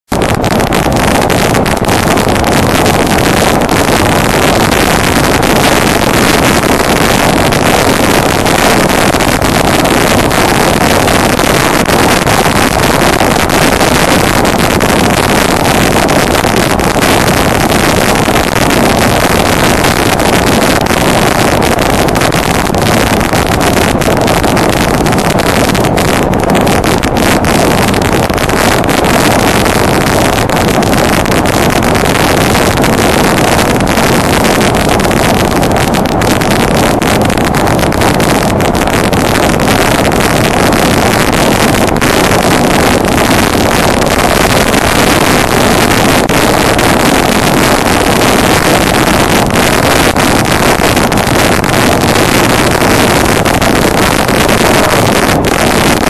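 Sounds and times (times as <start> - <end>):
motorcycle engine and road noise: 0.0 - 56.0
wind rush on microphone: 0.0 - 56.0.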